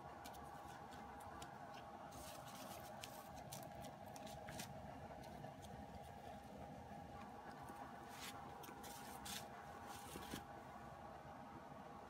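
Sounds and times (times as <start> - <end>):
faint steady hum: 0.0 - 12.0
cards rustling and ticking: 0.1 - 6.5, 7.2 - 10.5.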